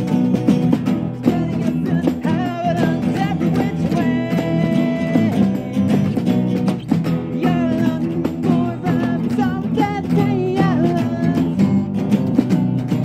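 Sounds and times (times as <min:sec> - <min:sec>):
strummed acoustic guitars: 0:00.0 - 0:13.0.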